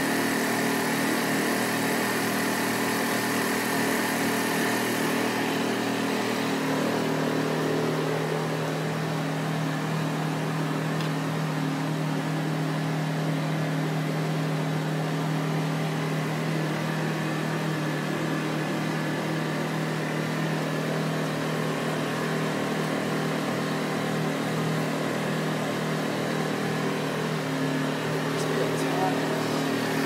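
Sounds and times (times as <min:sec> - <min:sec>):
steam cleaner hum: 0:00.0 - 0:30.0.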